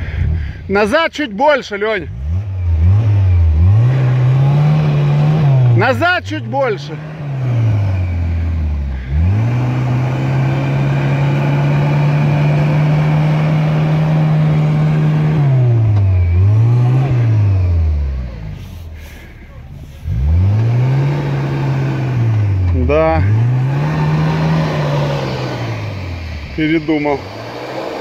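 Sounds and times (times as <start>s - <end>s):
engine revving hard: 2.0s - 28.0s.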